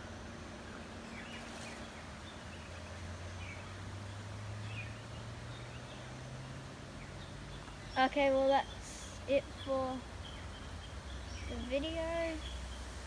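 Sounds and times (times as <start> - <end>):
faint bird chirps: 0.0 - 12.9.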